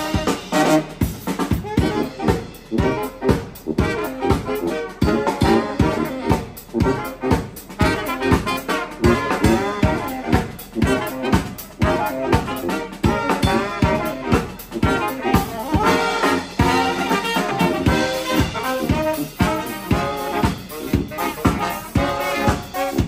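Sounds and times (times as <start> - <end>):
brass band playing: 0.0 - 23.0
drum kit beat: 0.0 - 23.0.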